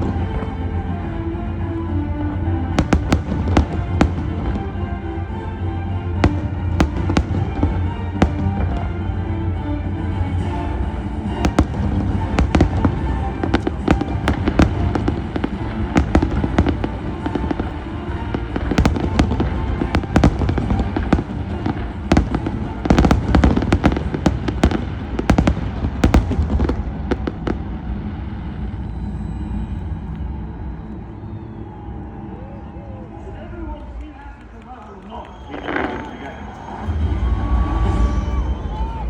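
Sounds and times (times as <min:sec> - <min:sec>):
fireworks bangs and crackling: 0:00.0 - 0:01.6, 0:02.2 - 0:31.8, 0:35.4 - 0:39.0
music: 0:00.0 - 0:39.0.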